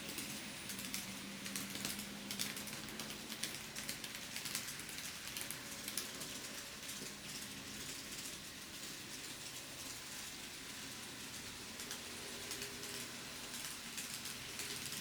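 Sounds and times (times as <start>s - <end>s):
faint motor hum: 0.0s - 15.0s.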